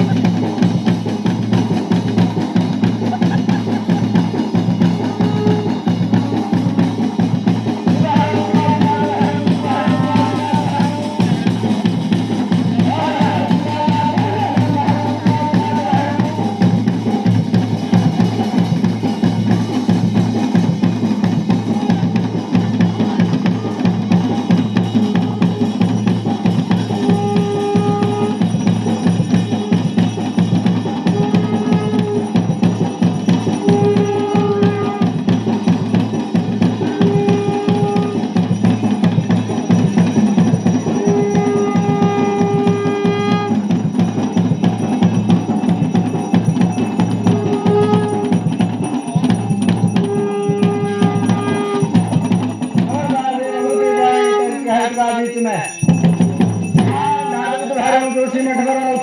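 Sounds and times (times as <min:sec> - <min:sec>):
fast drumming: 0:00.0 - 0:59.0
held high note: 0:02.7 - 0:17.2, 0:21.7 - 0:45.6, 0:46.2 - 0:59.0.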